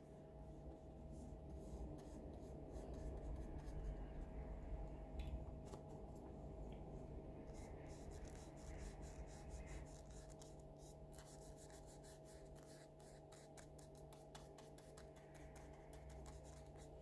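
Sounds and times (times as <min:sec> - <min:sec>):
faint steady hum: 0:00.0 - 0:17.0
paintbrush dabbing on paper: 0:00.1 - 0:04.4, 0:05.5 - 0:17.0.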